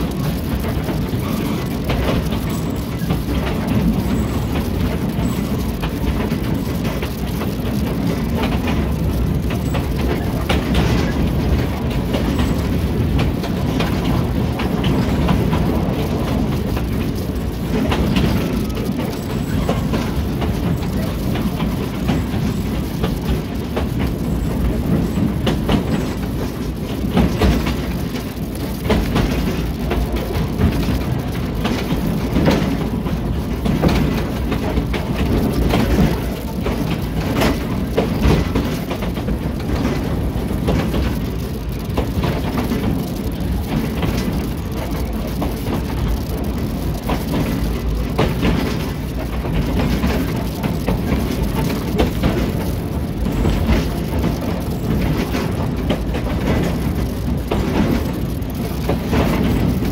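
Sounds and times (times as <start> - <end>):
train rumbling and rattling: 0.0 - 59.9
wheels clicking on rails: 0.0 - 59.9.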